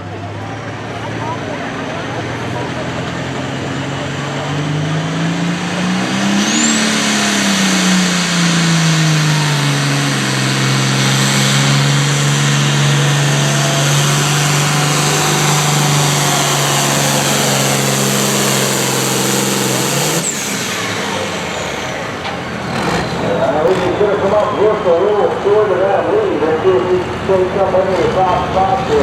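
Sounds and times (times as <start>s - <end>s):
pulling tractor engine at full throttle: 0.0s - 29.0s.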